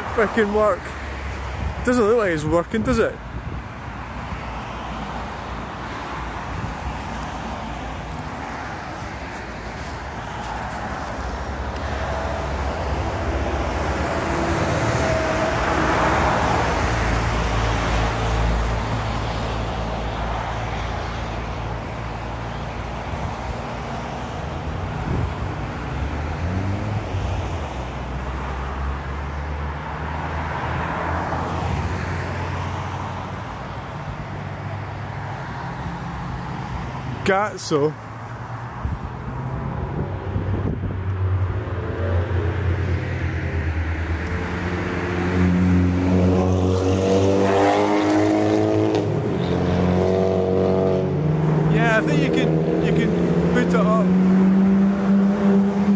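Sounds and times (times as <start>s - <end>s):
motorway traffic rushing past: 0.0s - 55.9s.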